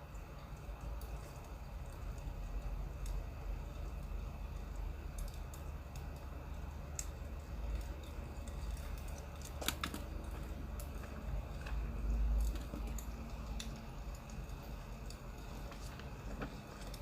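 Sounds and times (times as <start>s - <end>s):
firewood crackling: 0.0s - 17.0s.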